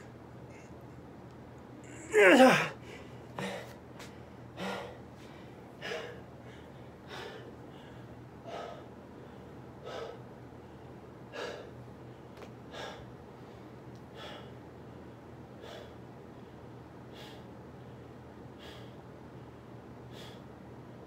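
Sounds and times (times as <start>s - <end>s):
man breathing heavily: 1.9s - 19.1s, 20.0s - 20.5s.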